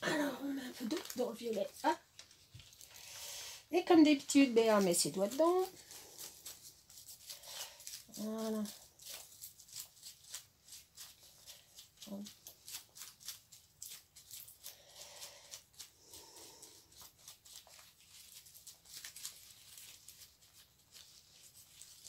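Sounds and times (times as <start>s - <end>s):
gloved fingers rubbing crinkling: 0.4s - 22.0s.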